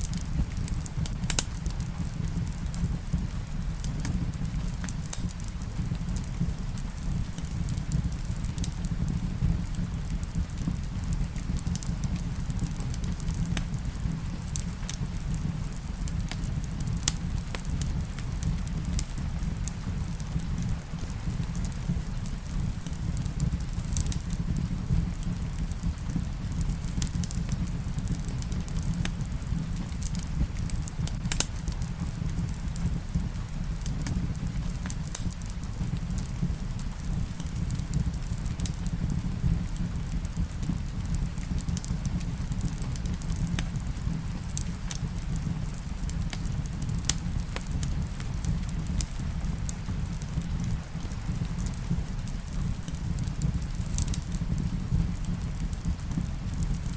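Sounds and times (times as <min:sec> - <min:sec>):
rain falling: 0:00.0 - 0:56.8
wood fire crackling and popping: 0:00.0 - 0:56.9.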